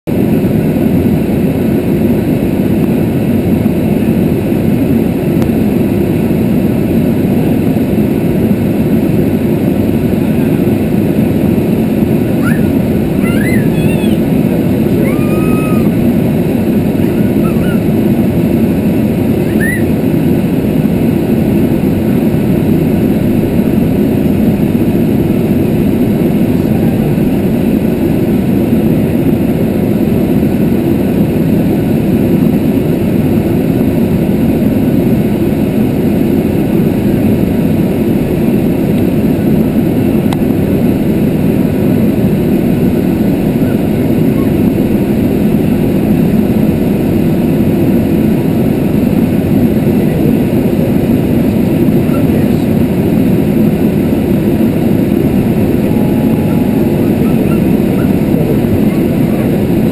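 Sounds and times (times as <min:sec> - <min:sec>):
aircraft engine and airflow noise: 0:00.0 - 0:59.9.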